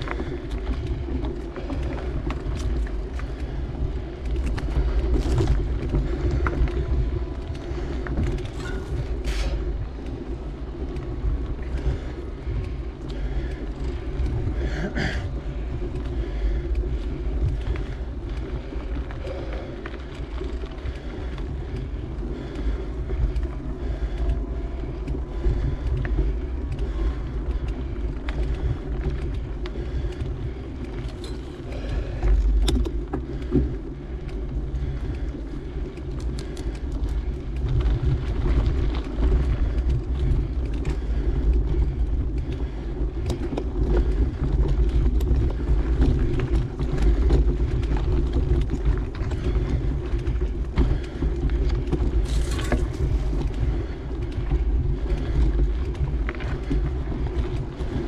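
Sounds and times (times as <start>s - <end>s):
bike clicks and rattles: 0.0s - 58.0s
tyres rolling on dirt: 0.0s - 58.0s
wind buffeting microphone: 0.0s - 58.0s.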